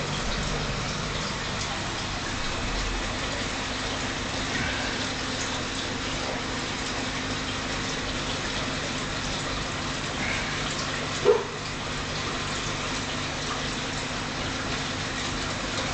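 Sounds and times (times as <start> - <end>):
aquarium filter running water: 0.0 - 15.9
pump humming: 0.0 - 15.9.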